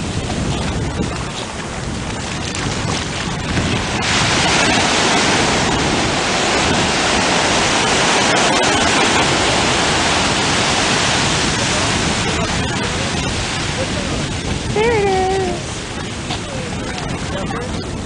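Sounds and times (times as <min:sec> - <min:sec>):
ocean surf washing over shallows: 0:00.0 - 0:18.0.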